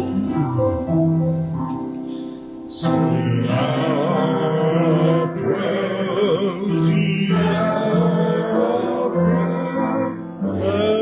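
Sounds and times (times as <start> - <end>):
sustained keyboard chords: 0.0 - 11.0.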